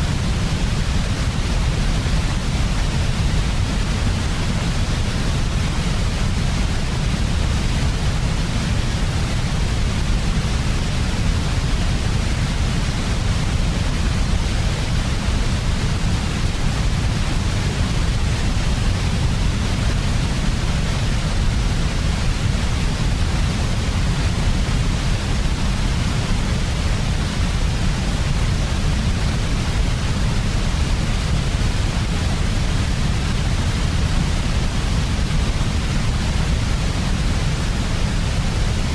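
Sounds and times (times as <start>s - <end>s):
steady synthetic noise hiss: 0.0s - 38.9s.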